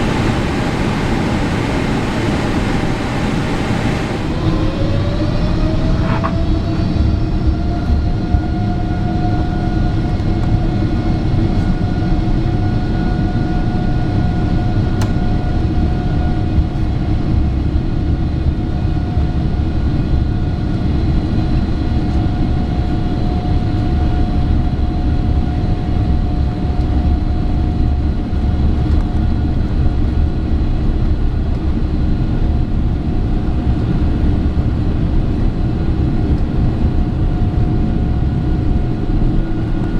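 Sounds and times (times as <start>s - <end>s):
jet engines heard in cabin: 0.0s - 39.9s.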